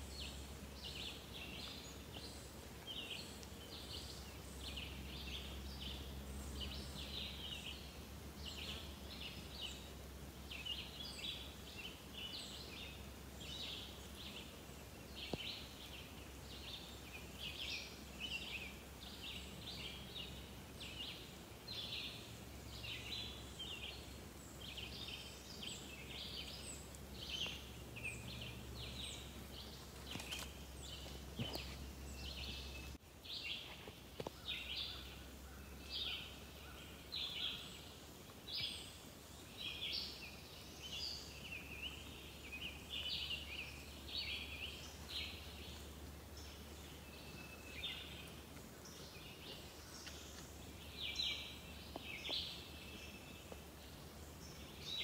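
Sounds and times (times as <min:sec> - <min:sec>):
birds chirping: 0:00.0 - 0:55.0
low steady hum: 0:00.0 - 0:55.0.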